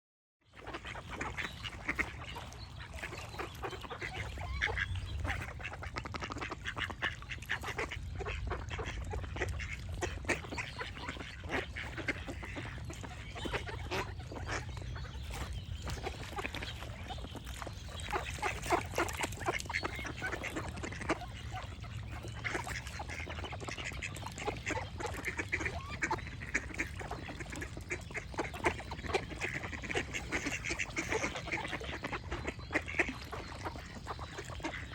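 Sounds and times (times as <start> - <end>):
ducks quacking: 0.6 - 34.9
small birds chirping: 0.7 - 34.9.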